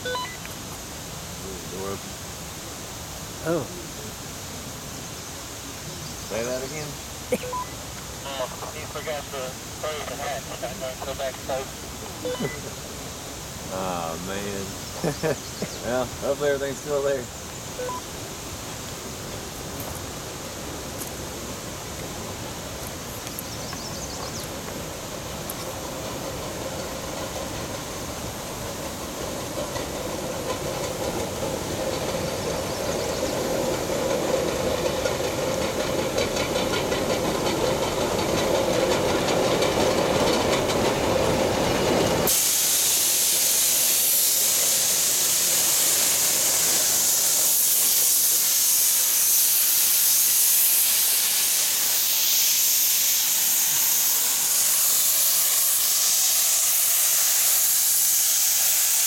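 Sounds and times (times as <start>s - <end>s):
steam hissing: 0.0s - 59.0s
steam locomotive running: 0.0s - 59.0s.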